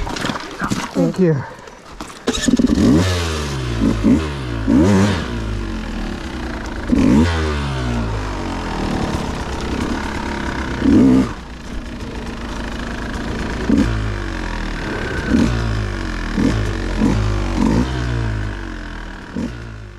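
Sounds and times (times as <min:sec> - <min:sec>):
dirt bike engine revving: 0:02.2 - 0:19.9.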